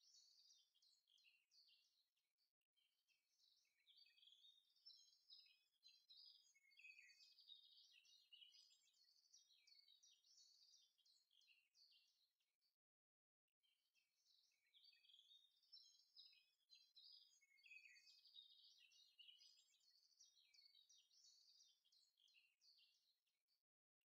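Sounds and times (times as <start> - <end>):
small birds chirping: 0.0 - 12.8, 13.6 - 24.0.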